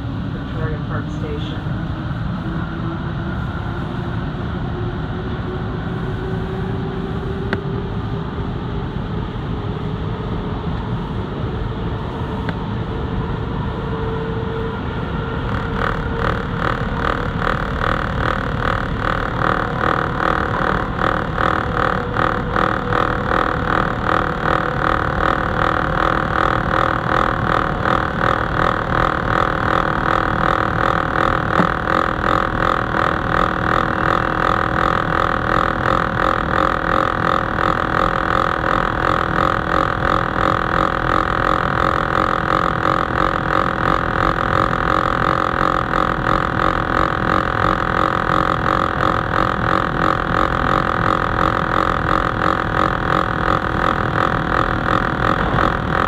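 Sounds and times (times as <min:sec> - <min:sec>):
high-pitched running hum: 0:00.0 - 0:56.0.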